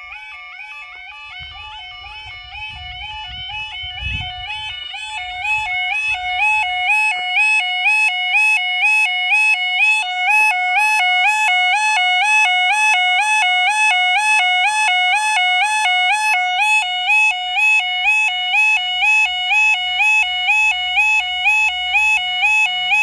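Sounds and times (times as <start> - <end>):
two-tone warning warble: 0.0 - 23.0.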